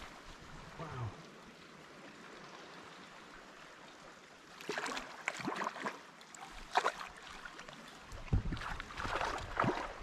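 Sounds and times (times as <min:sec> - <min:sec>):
water lapping: 0:00.0 - 0:10.0.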